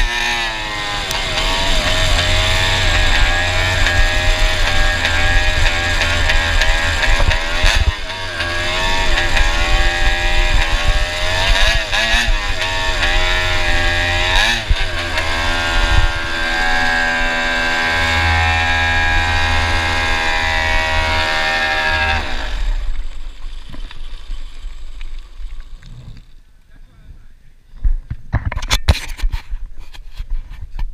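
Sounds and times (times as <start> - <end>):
go-kart engine revving: 0.0 - 26.3.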